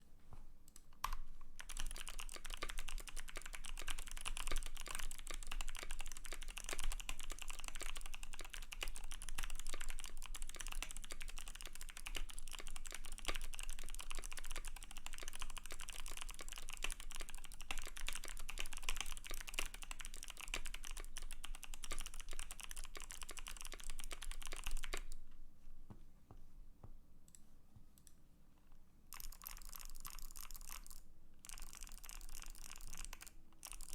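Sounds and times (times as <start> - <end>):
typing on mechanical keyboard: 0.7 - 25.2, 29.1 - 33.9.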